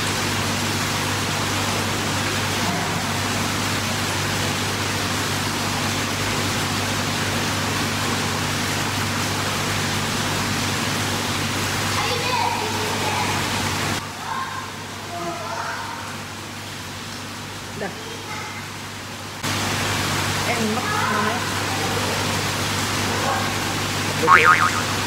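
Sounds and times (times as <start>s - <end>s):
ventilation hum: 0.0s - 25.0s
water circulation rushing: 0.0s - 25.0s.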